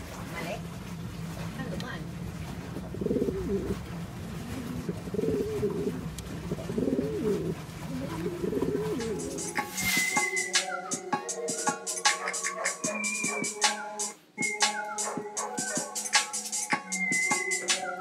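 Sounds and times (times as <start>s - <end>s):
pigeon cooing: 2.8s - 18.0s.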